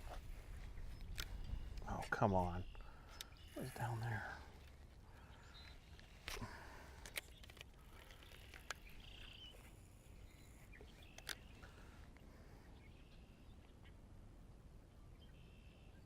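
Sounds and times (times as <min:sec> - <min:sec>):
distant bird chirps: 0:00.0 - 0:14.1.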